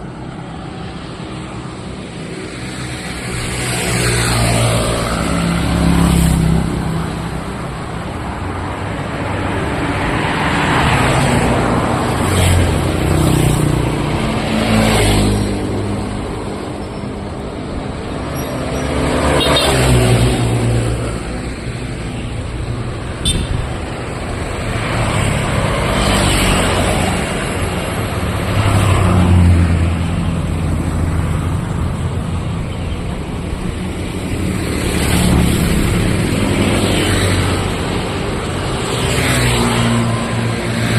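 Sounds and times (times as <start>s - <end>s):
cars passing: 0.0s - 40.9s
motorbikes passing: 0.0s - 40.9s.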